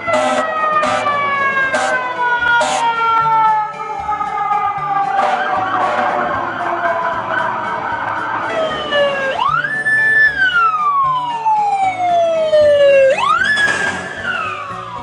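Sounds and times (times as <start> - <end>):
wailing police siren: 0.0 - 15.0.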